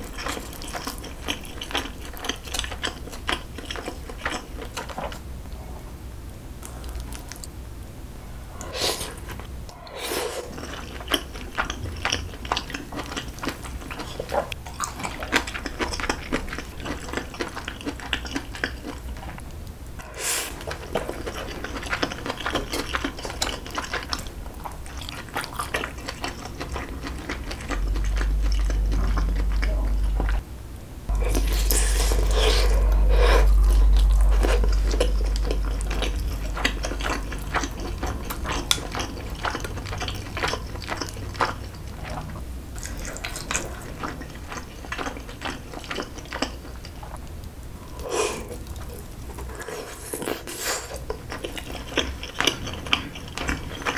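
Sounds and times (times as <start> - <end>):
close-miked chewing: 0.0 - 5.7, 6.6 - 7.6, 8.6 - 30.4, 31.1 - 53.9
steady low rumble: 2.1 - 17.4, 18.0 - 49.5.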